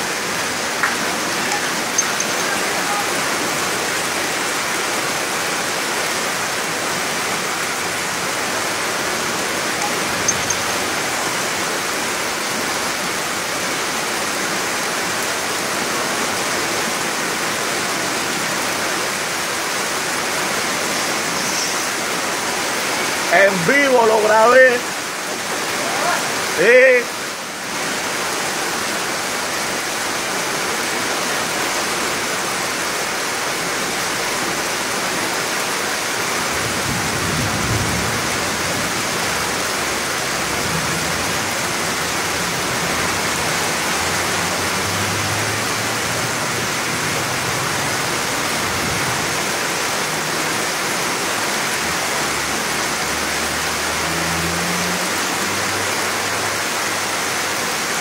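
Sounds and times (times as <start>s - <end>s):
fast-flowing river rushing: 0.0s - 58.0s.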